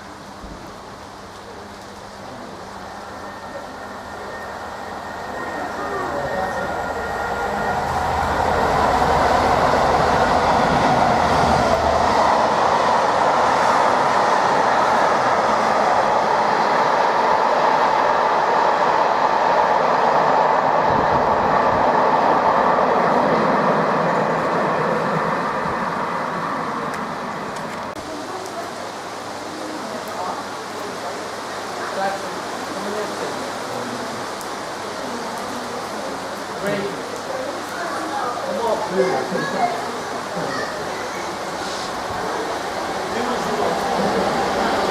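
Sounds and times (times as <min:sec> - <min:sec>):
train wheels rumbling on rail: 0:00.0 - 0:28.6, 0:35.2 - 0:44.9.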